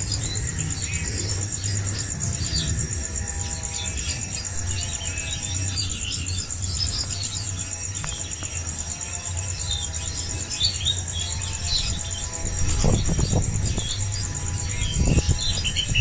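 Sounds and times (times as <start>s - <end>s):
birds chirping: 0.0s - 16.0s
high insect trill: 0.0s - 16.0s.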